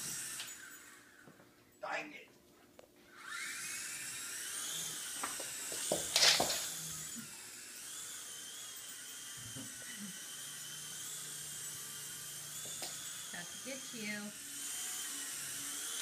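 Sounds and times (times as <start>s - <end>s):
rc helicopter rotors whining: 0.0s - 1.3s, 3.1s - 16.0s.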